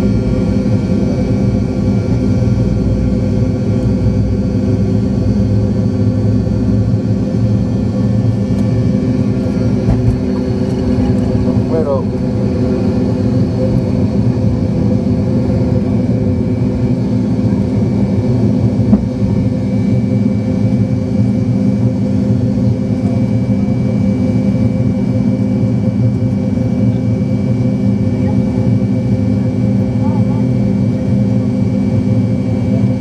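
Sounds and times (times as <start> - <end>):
jet engines droning in cabin: 0.0 - 33.0.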